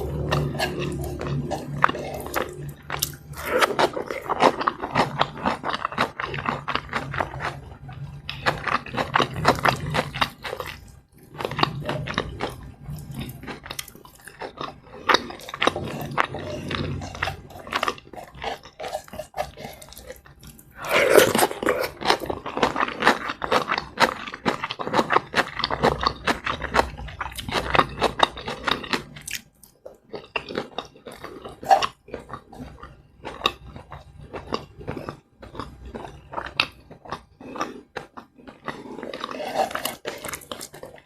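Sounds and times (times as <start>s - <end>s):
person chewing and crunching: 0.0s - 41.0s.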